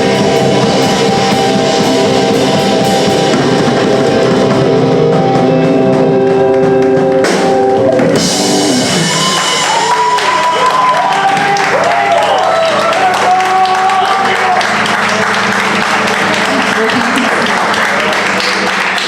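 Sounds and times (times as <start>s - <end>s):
punk rock band playing: 0.0s - 18.9s.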